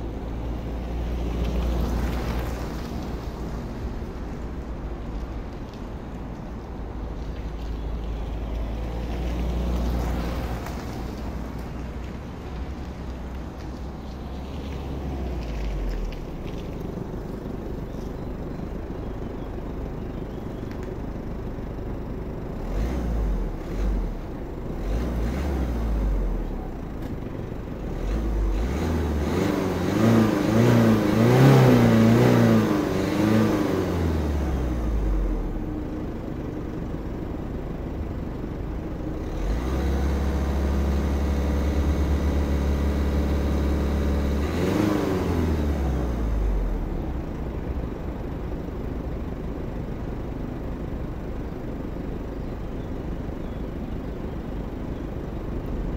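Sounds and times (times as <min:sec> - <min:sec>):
diesel engine idling and revving: 0:00.0 - 0:55.9.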